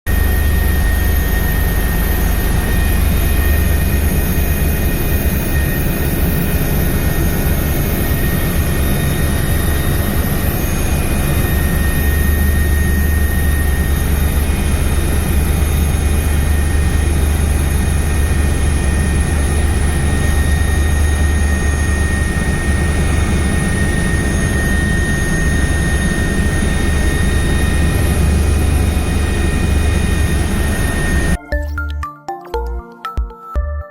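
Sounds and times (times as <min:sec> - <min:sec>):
aircraft engine drone: 0:00.1 - 0:31.4.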